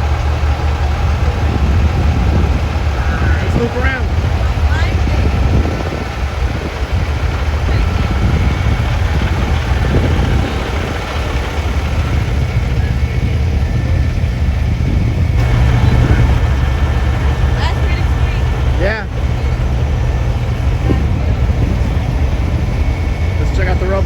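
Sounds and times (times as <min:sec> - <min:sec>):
truck engines idling: 0:00.0 - 0:24.0.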